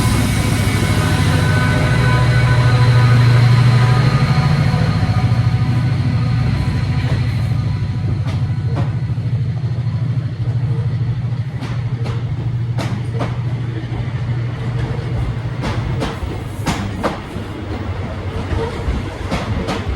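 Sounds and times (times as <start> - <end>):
rail clicks and knocks: 0.0 - 19.9
train rumbling: 0.0 - 19.9.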